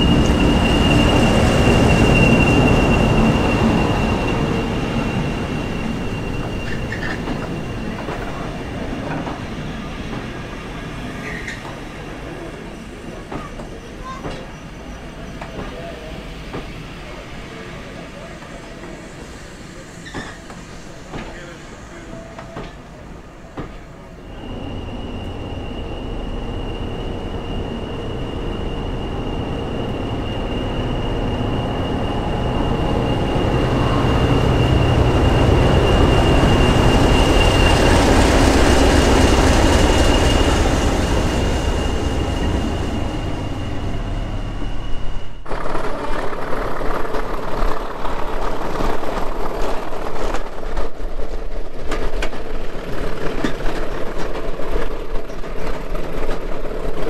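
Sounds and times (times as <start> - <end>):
rattling train with sharp clicks: 0.0 - 57.0
train running: 0.0 - 57.0.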